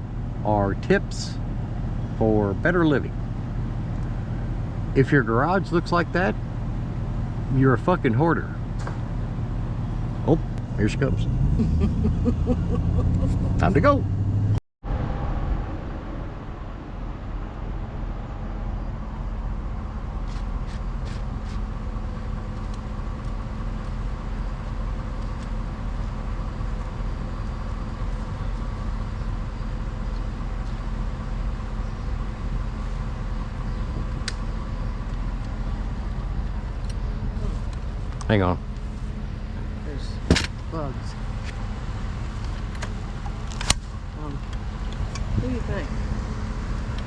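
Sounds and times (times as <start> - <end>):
road noise: 0.0 - 47.0
truck engine hum: 0.0 - 47.0.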